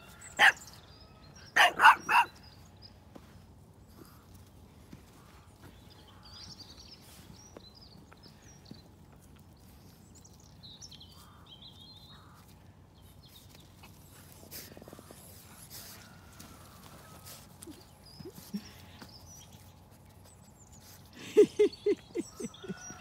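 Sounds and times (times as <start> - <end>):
low outdoor background: 0.0 - 23.0.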